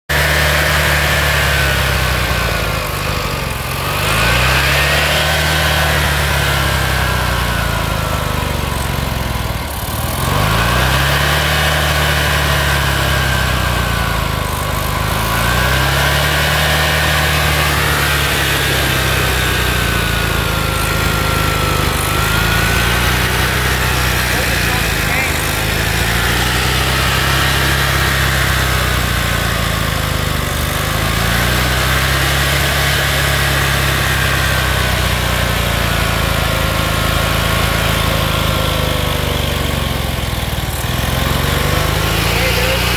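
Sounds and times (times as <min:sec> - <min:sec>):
lawn tractor engine running: 0:00.1 - 0:42.9.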